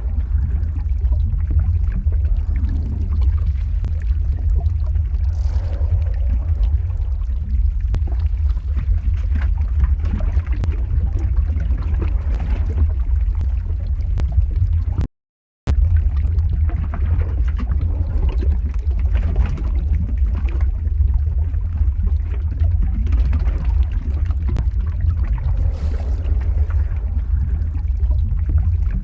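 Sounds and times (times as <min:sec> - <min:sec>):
crackles and pops: 0:00.0 - 0:15.1, 0:15.7 - 0:29.0
deep steady lava rumble: 0:00.0 - 0:29.0.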